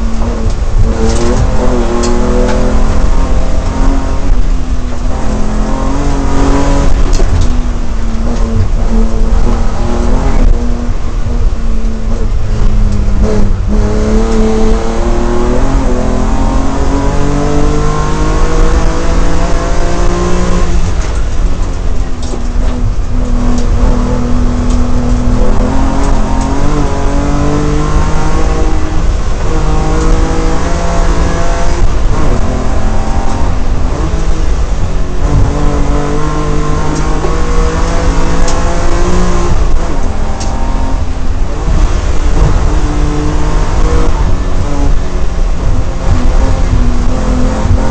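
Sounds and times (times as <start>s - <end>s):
race car engine accelerating: 0.0s - 47.9s.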